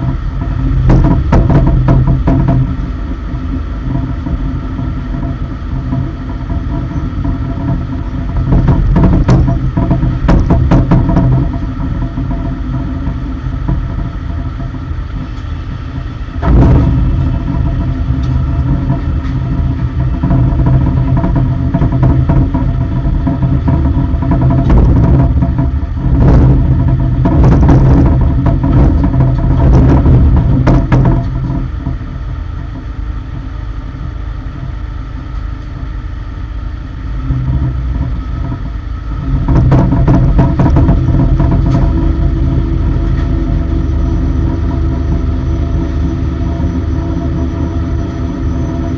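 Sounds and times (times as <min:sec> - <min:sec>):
cargo loader engine running: 0:00.0 - 0:48.9.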